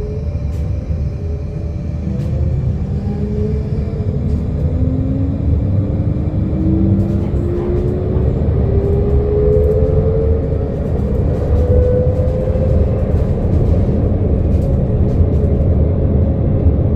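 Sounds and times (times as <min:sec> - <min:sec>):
heavy low rumble: 0:00.0 - 0:16.9.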